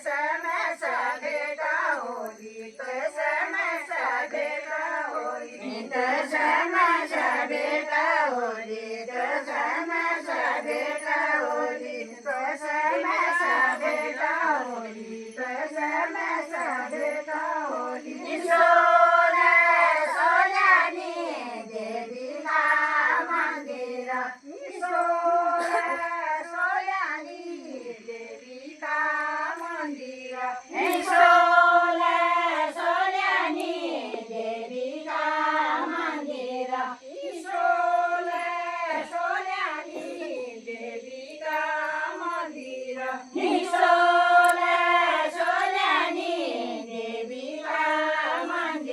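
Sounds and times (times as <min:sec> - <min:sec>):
voices singing a folk song: 0:00.0 - 0:48.9.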